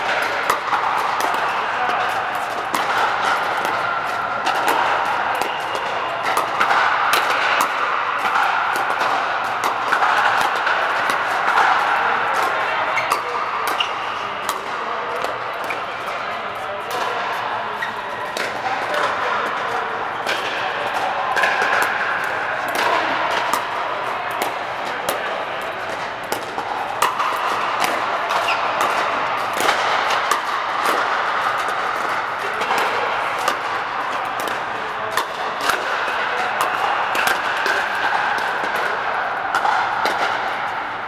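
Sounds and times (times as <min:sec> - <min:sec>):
hubbub of voices: 0:00.0 - 0:41.0
paddles hitting balls: 0:00.0 - 0:41.0.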